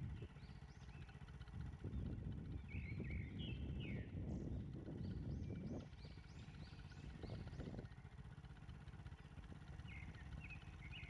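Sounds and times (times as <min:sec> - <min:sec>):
birds chirping: 0:00.0 - 0:11.0
low steady rumble: 0:00.0 - 0:11.0.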